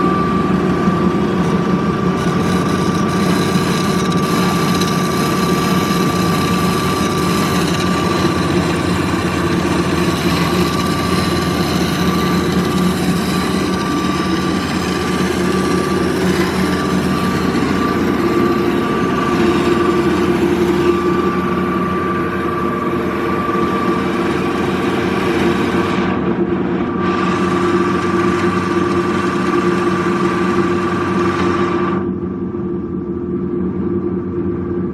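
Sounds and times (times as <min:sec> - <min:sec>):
band saw humming and whining: 0:00.0 - 0:34.9.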